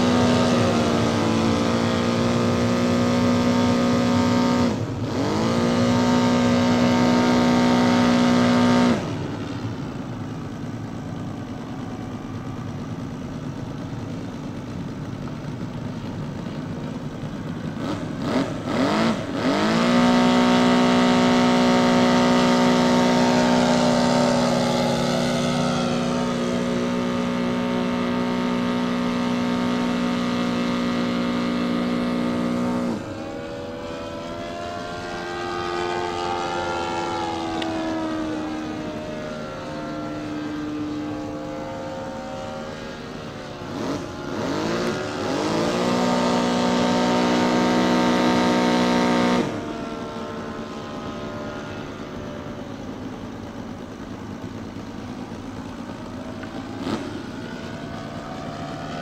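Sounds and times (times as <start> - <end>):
model plane electric motor whining: 0.0 - 59.0.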